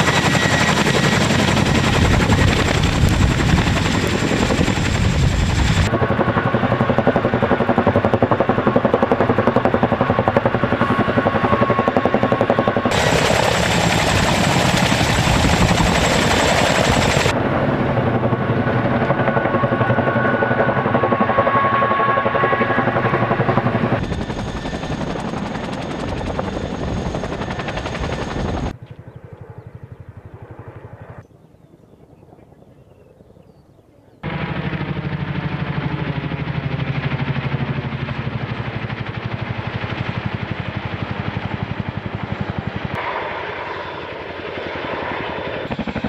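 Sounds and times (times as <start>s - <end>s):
helicopter rotor blades beating: 0.0s - 31.2s, 34.2s - 46.0s.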